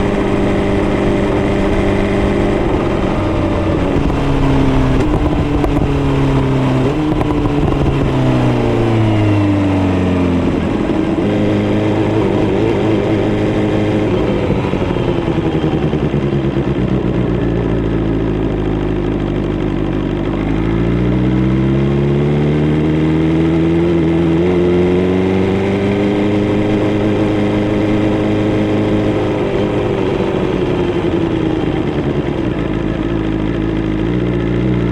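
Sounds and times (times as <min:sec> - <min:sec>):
motorcycle engine on the move: 0:00.0 - 0:34.9.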